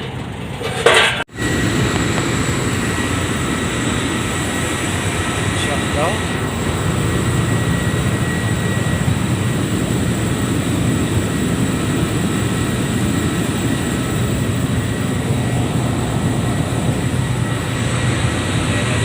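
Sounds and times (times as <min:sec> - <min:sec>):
power plant machinery drone: 0:00.0 - 0:19.0.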